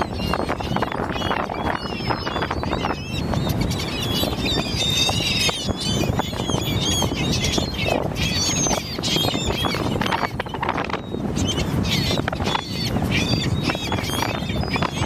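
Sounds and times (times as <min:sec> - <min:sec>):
seabirds calling: 0:00.0 - 0:15.0.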